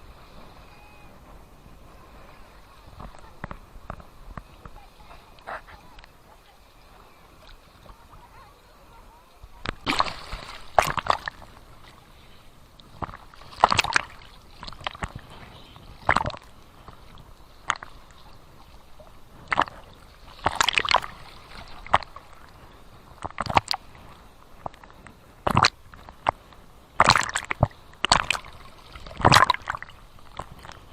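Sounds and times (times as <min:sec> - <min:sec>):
faint wash of water: 0:00.0 - 0:30.9
small waves splashing: 0:00.0 - 0:30.9.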